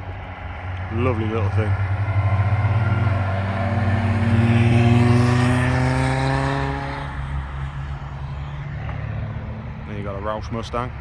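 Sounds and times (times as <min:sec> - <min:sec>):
race car engine passing: 0:00.3 - 0:10.0.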